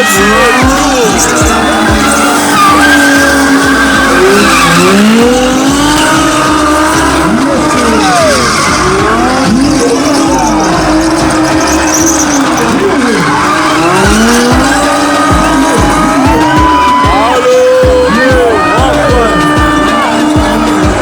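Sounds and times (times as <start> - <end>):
car engines revving: 0.0 - 21.0
tyres screeching: 0.0 - 21.0.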